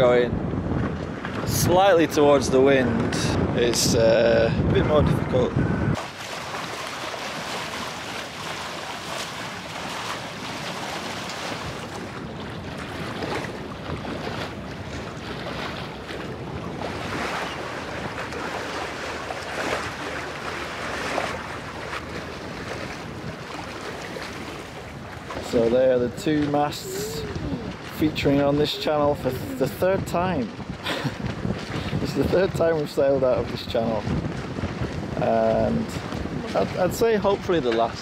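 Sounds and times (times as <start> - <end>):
water rushing along hull: 0.0 - 38.0
wind buffeting microphone: 0.0 - 38.0.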